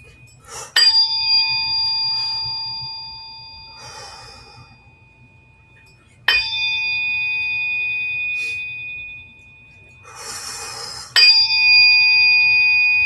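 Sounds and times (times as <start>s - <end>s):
struck metal instrument ringing: 0.0s - 13.0s.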